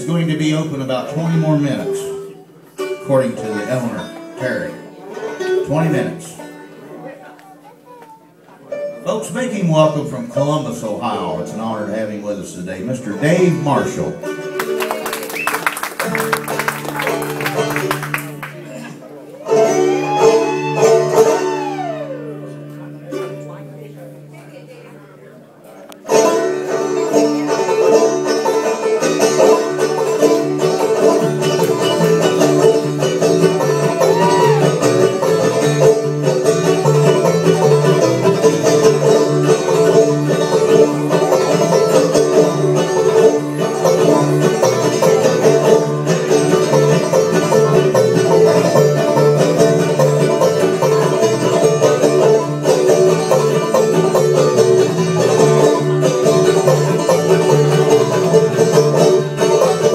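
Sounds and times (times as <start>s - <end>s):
guitars strumming: 0.0s - 24.9s, 25.9s - 59.9s
banjo playing: 0.0s - 59.9s.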